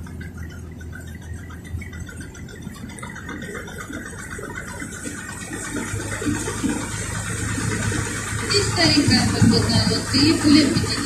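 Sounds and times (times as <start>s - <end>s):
boat engine humming: 0.0s - 11.0s
wind: 0.0s - 11.0s.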